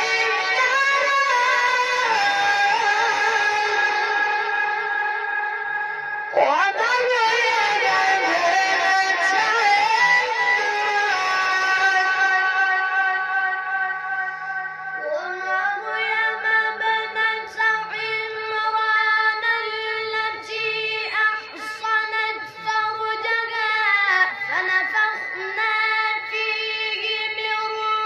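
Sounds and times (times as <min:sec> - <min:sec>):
boy reciting melodically: 0:00.0 - 0:04.8, 0:06.3 - 0:28.0.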